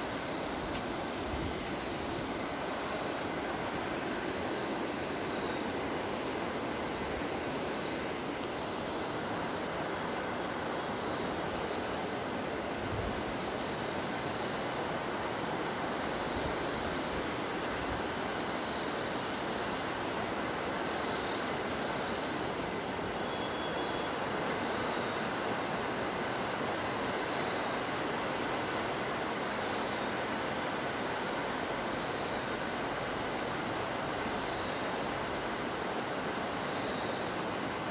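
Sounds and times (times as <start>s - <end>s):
river rushing: 0.0s - 37.9s.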